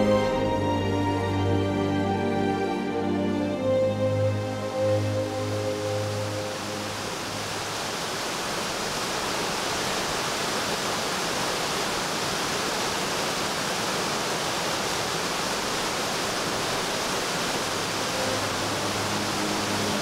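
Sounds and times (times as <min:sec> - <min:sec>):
rushing river water: 0:00.0 - 0:20.0.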